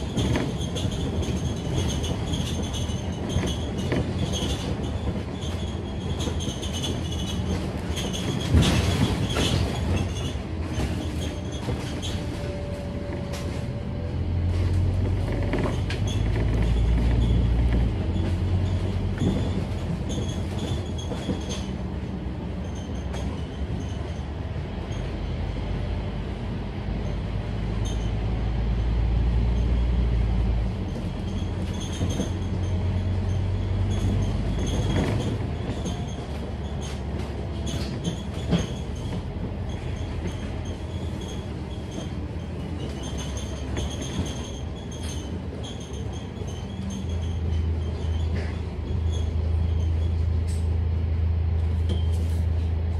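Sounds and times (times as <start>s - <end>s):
bus body clicks and rattles: 0.0s - 52.9s
bus diesel engine rumbling: 0.0s - 52.9s.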